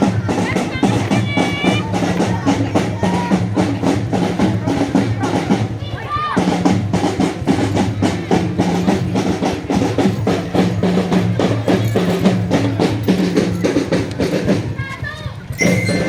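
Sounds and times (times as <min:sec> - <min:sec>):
marching snare and bass drums: 0:00.0 - 0:16.0.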